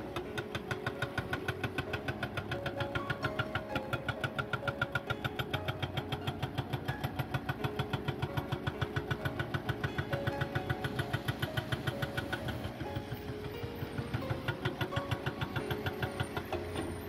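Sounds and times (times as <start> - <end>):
diesel engine running: 0.0 - 17.0
hydraulic breaker hammering rock: 0.0 - 17.0.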